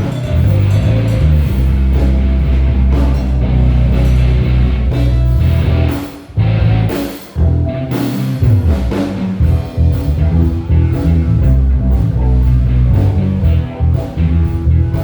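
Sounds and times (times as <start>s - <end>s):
bass and drum kit: 0.0s - 15.0s
electric guitar: 0.0s - 15.0s.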